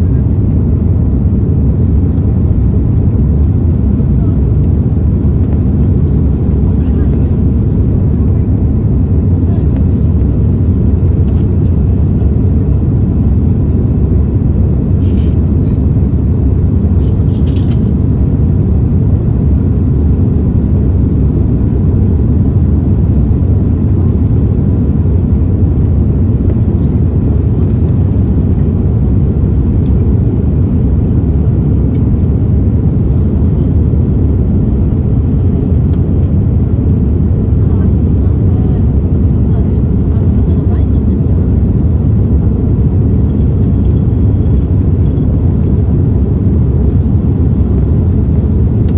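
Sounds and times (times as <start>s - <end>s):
aircraft cabin engine rumble: 0.0s - 48.9s.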